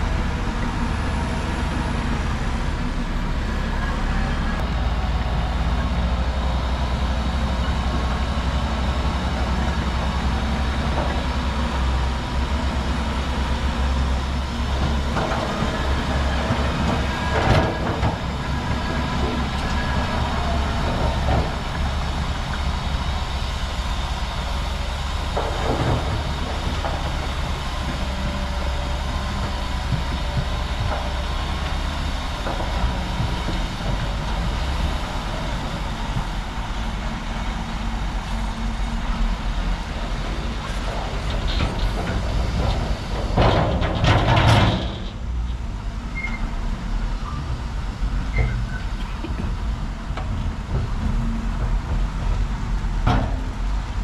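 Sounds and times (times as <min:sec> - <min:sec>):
bulldozer diesel engine rumbling: 0:00.0 - 0:54.0.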